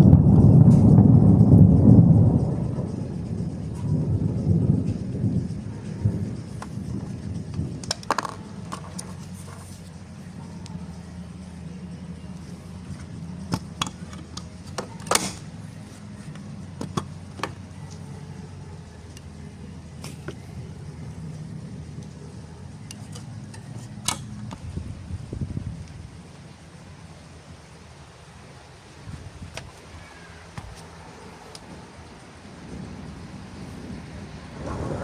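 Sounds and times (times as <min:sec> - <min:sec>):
steady low rumble: 0:00.0 - 0:30.0, 0:30.7 - 0:35.0.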